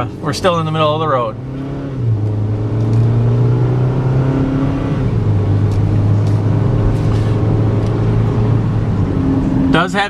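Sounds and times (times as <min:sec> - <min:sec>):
car engine hum inside cabin: 0:00.0 - 0:10.0.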